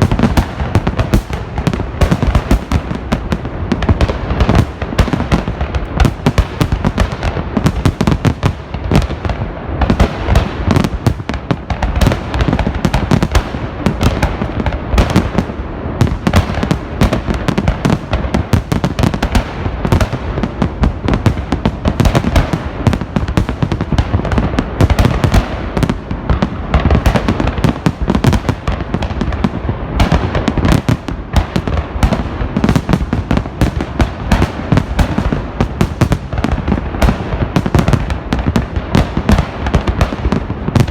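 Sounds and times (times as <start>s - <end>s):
fireworks bangs: 0.0s - 40.9s.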